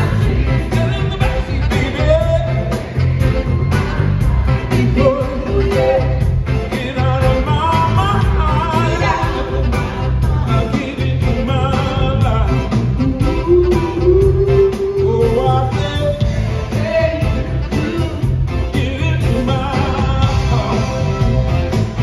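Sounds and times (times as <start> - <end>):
man singing lead vocal: 0.0 - 3.4, 4.5 - 22.0
drum beat: 0.0 - 22.0
live pop band playing: 0.0 - 22.0.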